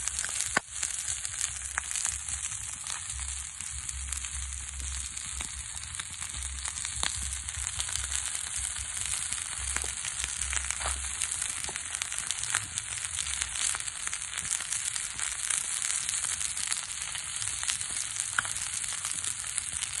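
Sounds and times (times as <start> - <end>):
fish sizzling on hot rock: 0.0 - 20.0
pops and crackles: 0.0 - 20.0.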